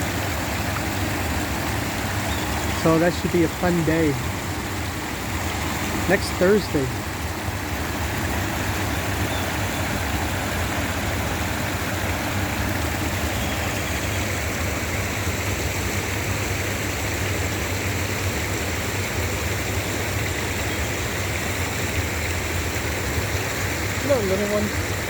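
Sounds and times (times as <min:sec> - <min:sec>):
water rushing from waterfall: 0:00.0 - 0:25.0.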